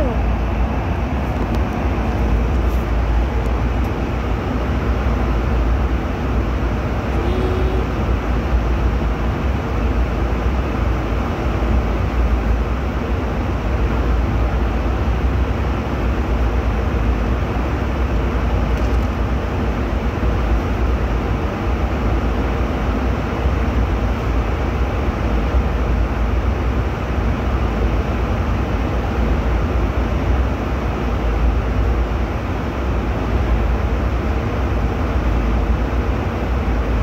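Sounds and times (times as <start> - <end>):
airliner cabin engine rumble: 0.0 - 37.0.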